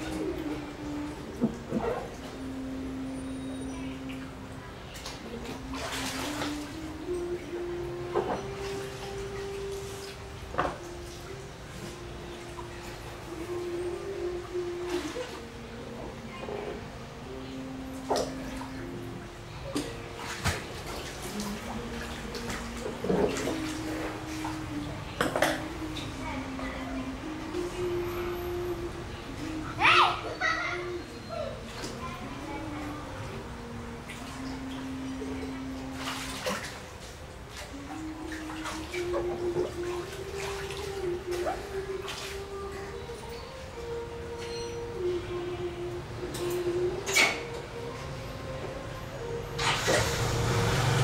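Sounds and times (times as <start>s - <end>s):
water sloshing and splashing: 0.0s - 51.0s.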